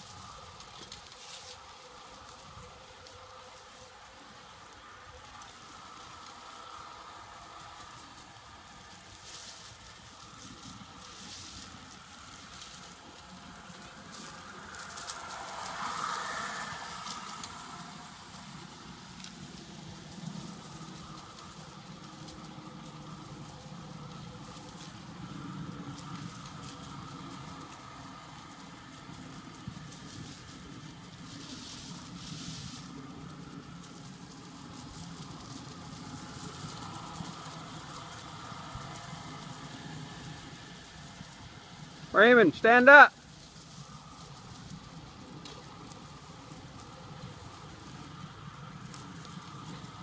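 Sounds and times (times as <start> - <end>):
steady crackling noise: 0.0 - 50.0
tyres rustling through leaves: 0.0 - 50.0.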